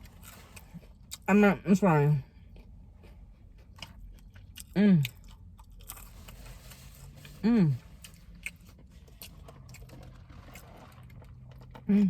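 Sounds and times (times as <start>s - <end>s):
person chewing crunchy food: 0.0s - 1.3s, 2.4s - 11.9s.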